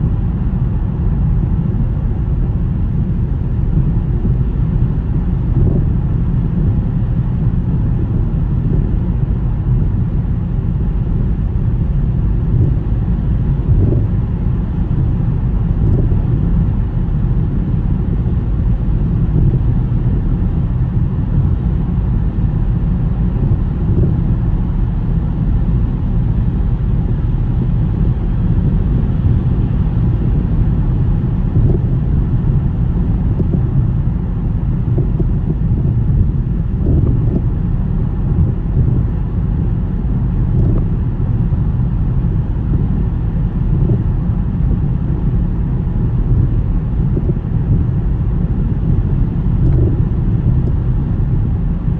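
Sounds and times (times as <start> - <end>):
car road rumble: 0.0 - 51.9.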